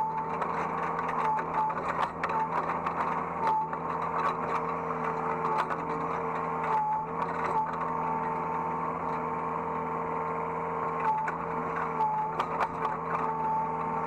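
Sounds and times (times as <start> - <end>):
excavator engine and hydraulic whine: 0.0 - 14.0.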